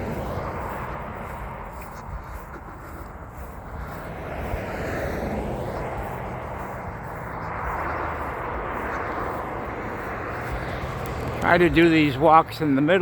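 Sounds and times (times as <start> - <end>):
passing vehicle engine hum: 0.0 - 13.0.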